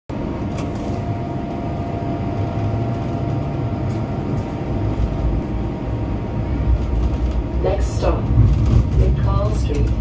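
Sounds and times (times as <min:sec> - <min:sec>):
streetcar rumbling on rails: 0:00.1 - 0:10.0.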